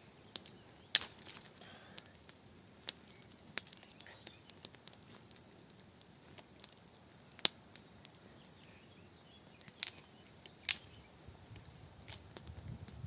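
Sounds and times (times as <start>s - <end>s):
faint steady hiss: 0.0s - 13.0s
sharp clicks and snaps: 0.3s - 8.2s, 9.6s - 13.0s.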